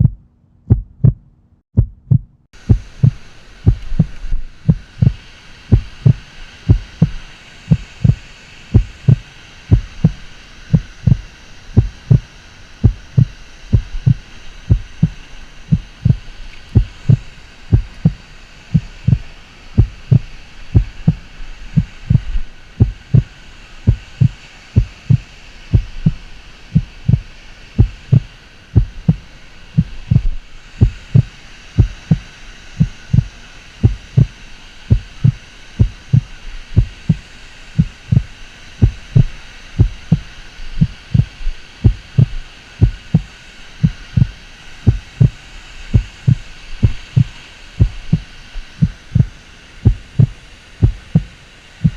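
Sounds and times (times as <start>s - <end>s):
low thumps: 0.0s - 12.2s, 12.8s - 18.2s, 18.8s - 26.2s, 26.8s - 43.3s, 43.9s - 51.3s
steady rushing hiss: 2.5s - 51.9s.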